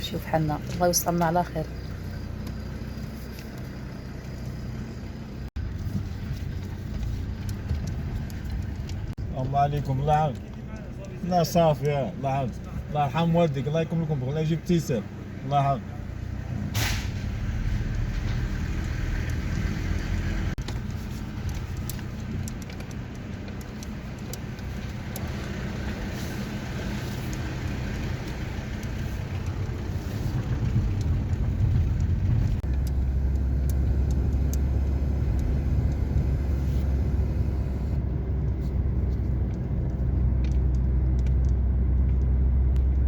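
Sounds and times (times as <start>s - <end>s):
car engine: 0.0s - 43.0s
road rumble: 0.0s - 43.0s.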